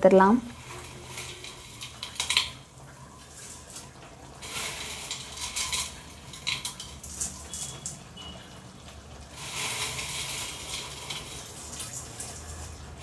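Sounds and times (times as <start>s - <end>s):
dry noodles rustling: 0.4s - 13.0s.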